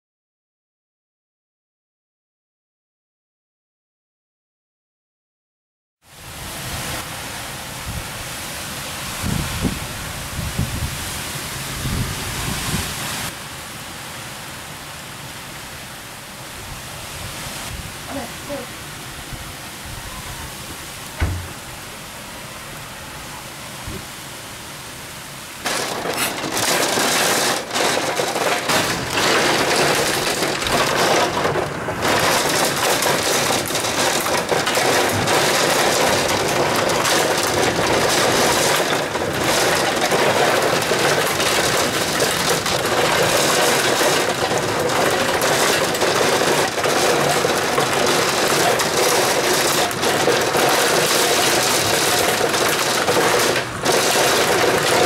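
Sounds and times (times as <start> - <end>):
heavy rain pelting down: 6.0 - 55.0.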